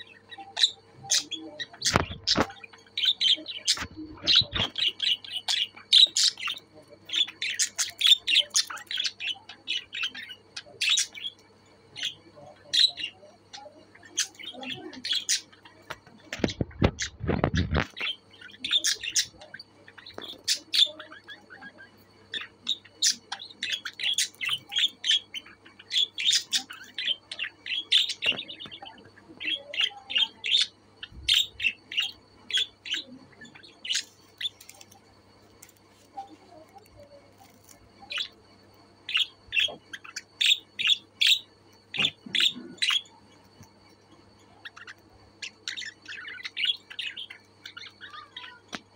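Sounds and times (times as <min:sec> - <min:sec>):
budgerigars chirping: 0:00.0 - 0:35.0, 0:36.5 - 0:38.4, 0:39.0 - 0:48.6.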